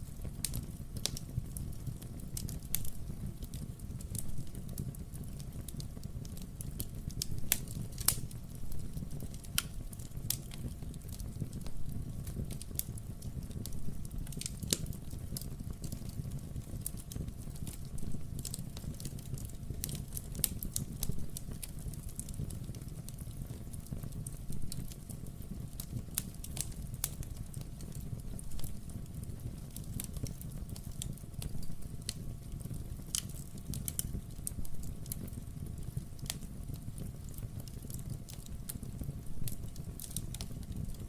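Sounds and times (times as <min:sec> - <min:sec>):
fire low rumble: 0:00.0 - 0:41.0
logs crackling and popping: 0:00.1 - 0:41.0.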